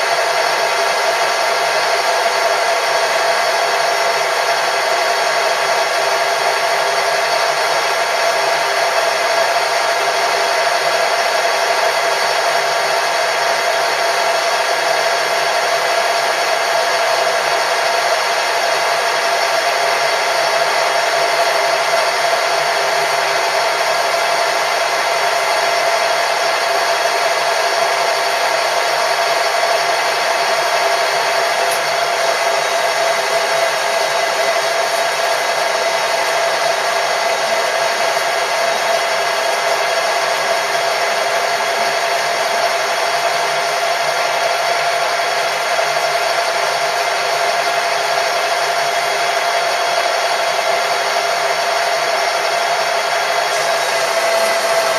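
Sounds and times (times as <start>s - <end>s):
machine tool motor whine: 0.0s - 54.9s.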